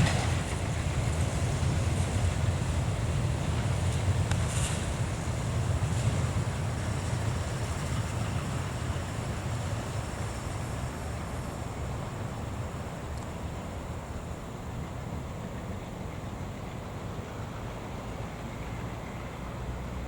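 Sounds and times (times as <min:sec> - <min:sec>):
passing train rumble: 0:00.0 - 0:20.0.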